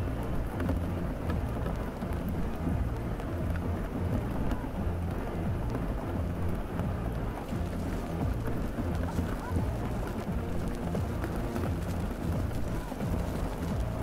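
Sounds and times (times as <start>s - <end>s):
deep low rumble: 0.0s - 14.0s
faint music: 0.0s - 14.0s
steady rain: 0.0s - 14.0s.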